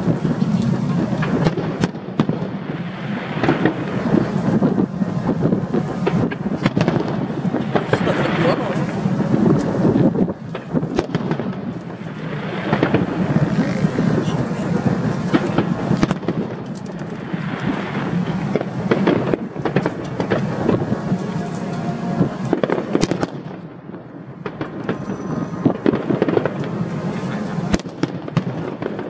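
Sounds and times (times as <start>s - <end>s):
fireworks bangs: 0.0s - 29.0s
fireworks crackle and rumble: 0.0s - 29.0s.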